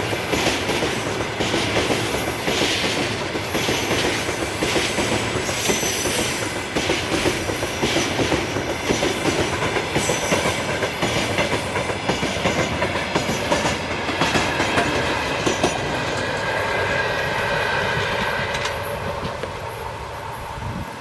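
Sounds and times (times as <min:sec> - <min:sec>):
freight train wheels clicking over rails: 0:00.0 - 0:21.0.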